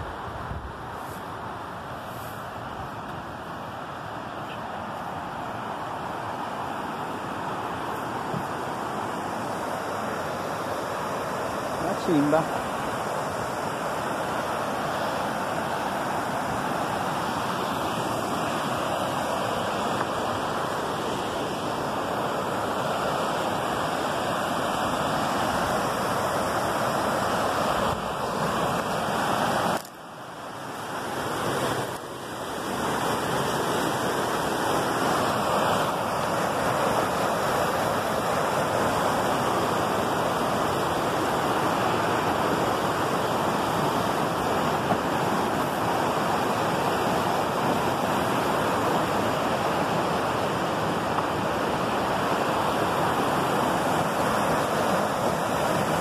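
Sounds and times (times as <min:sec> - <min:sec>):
river rushing over rapids: 0:00.0 - 0:56.0.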